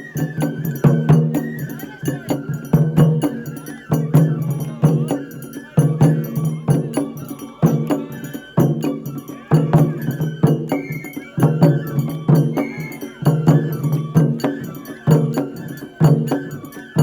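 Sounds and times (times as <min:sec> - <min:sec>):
high wavering melody: 0:00.0 - 0:17.0
percussion beat of sharp strikes: 0:00.0 - 0:17.0.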